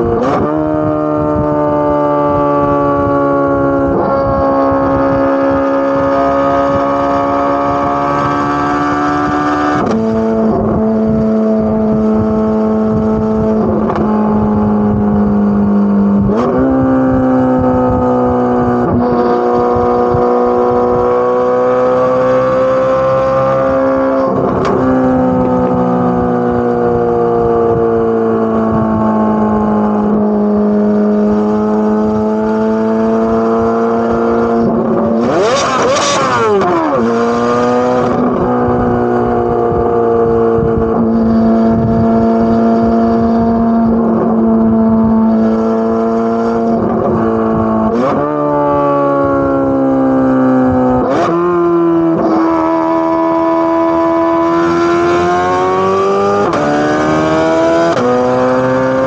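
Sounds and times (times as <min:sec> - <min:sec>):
sports car exhaust droning: 0:00.0 - 0:59.0.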